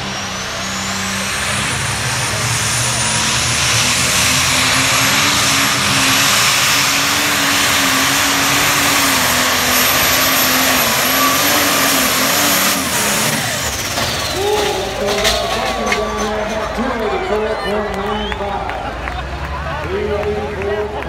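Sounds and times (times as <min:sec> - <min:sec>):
tractor diesel engine roaring: 0:00.0 - 0:21.0.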